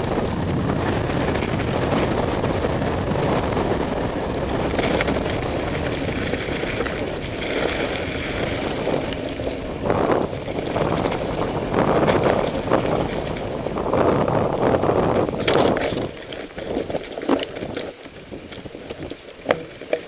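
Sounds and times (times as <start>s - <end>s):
bike rattling over bumps: 0.0s - 20.0s
bike tyres rumbling on stony track: 0.0s - 20.0s
wind buffeting microphone: 0.0s - 20.0s.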